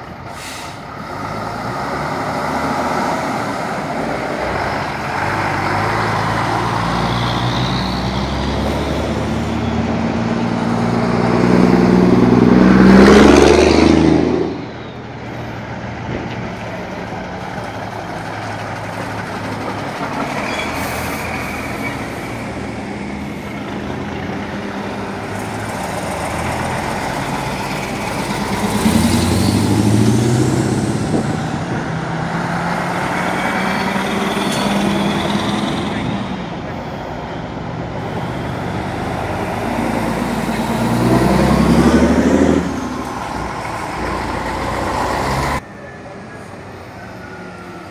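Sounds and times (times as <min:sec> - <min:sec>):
diesel lorries driving past: 0:00.0 - 0:47.9.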